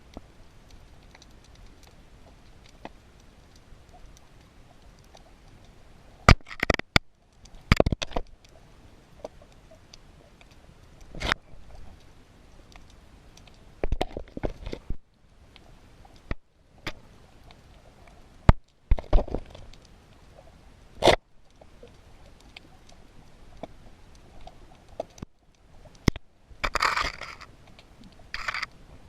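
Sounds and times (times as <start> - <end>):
sharp clicks and crackling: 0.0 - 28.8
low steady underwater hiss: 0.0 - 29.0.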